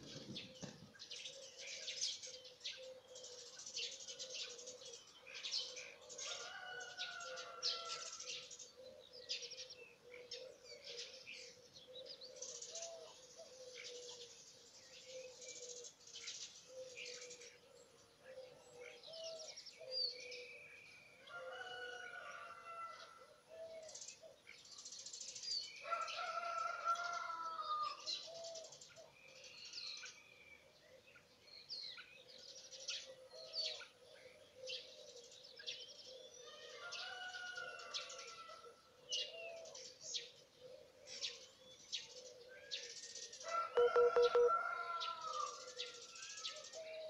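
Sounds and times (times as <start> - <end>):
songbirds singing: 0.0 - 47.0.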